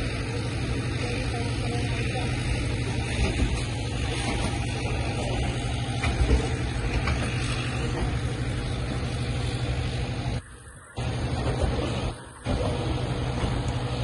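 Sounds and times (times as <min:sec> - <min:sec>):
low diesel engine drone: 0:00.0 - 0:14.0
steel wheels rumbling on rail: 0:00.0 - 0:14.0.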